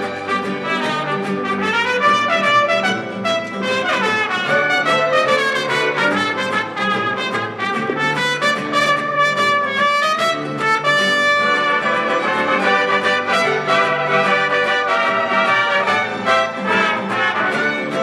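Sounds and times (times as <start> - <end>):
mariachi band playing: 0.0 - 18.0
trumpets: 0.0 - 18.0.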